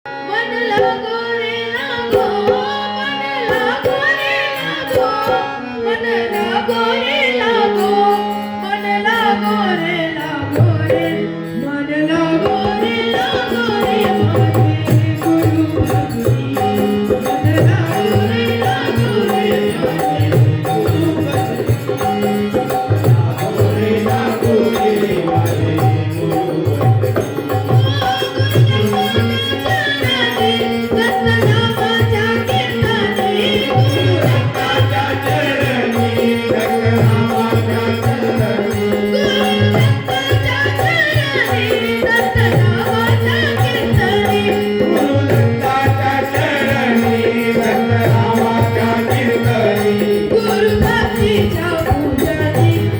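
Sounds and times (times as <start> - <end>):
harmonium melody: 0.0 - 52.9
person singing: 0.1 - 52.9.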